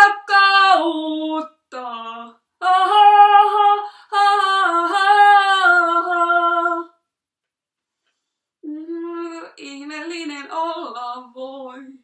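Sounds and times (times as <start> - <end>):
woman singing unaccompanied: 0.0 - 7.0, 8.6 - 12.0.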